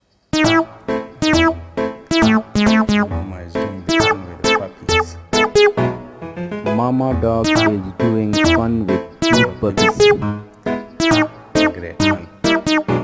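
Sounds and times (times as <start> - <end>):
keyboard melody: 0.4 - 13.0.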